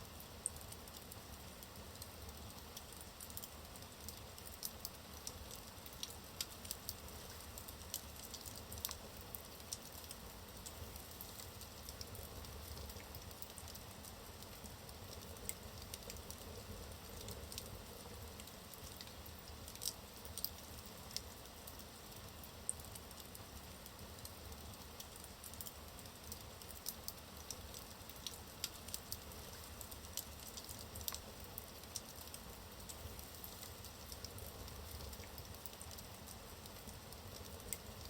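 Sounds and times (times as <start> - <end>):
wood fire crackling and popping: 0.2 - 38.0.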